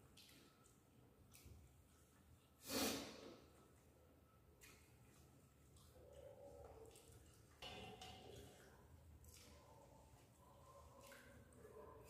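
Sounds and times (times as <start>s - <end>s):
quiet chewing: 0.0s - 2.6s, 3.3s - 12.0s.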